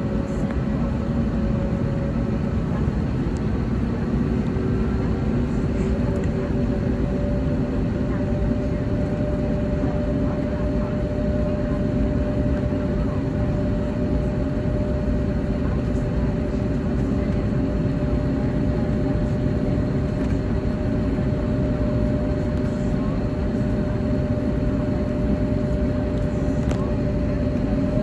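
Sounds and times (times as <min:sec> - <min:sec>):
airplane cabin engine and air noise: 0:00.0 - 0:28.0.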